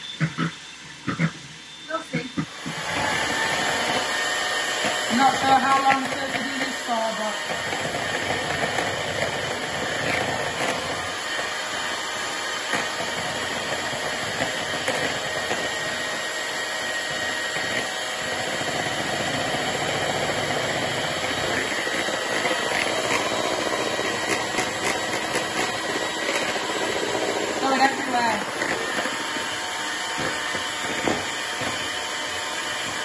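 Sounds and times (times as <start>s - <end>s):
electric hand mixer whipping cream: 0.0s - 33.0s.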